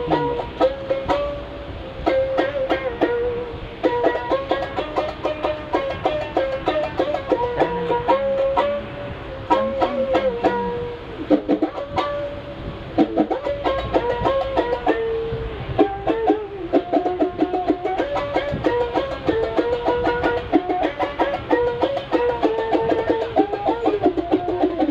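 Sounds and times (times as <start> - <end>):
steady low rumble: 0.0 - 24.7
plucked string instrument melody: 0.0 - 24.9.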